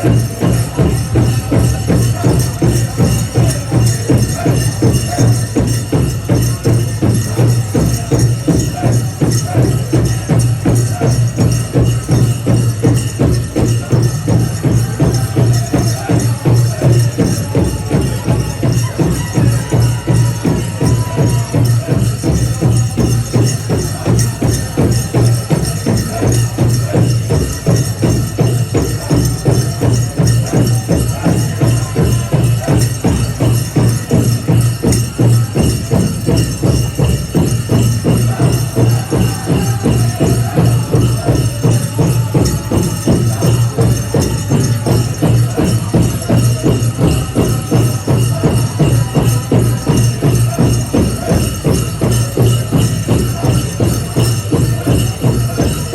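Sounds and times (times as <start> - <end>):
jingling rattle: 0.0 - 55.9
large drum beating: 0.0 - 55.9.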